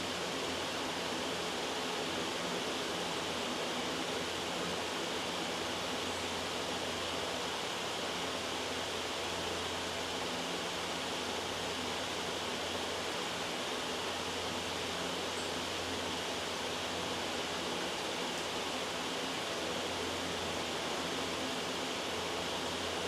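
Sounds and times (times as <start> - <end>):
loud white noise hiss: 0.0 - 23.0.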